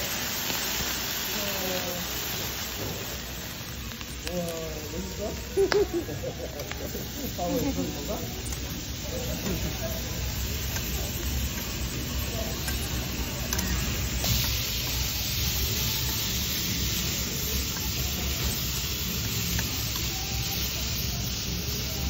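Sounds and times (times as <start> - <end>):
food sizzling on a griddle: 0.0 - 22.0.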